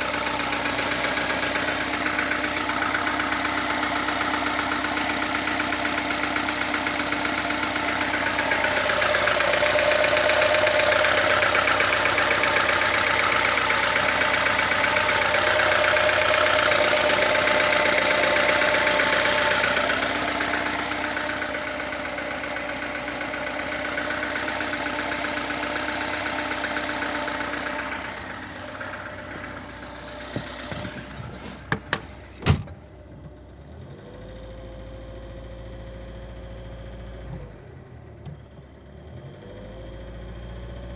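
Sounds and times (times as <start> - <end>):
car engine running with knock: 0.0 - 33.4.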